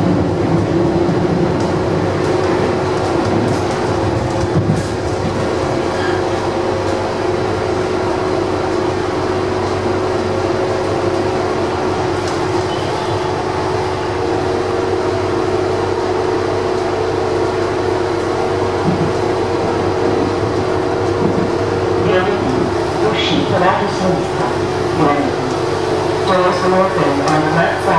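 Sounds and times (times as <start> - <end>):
train rolling on track: 0.0 - 27.9.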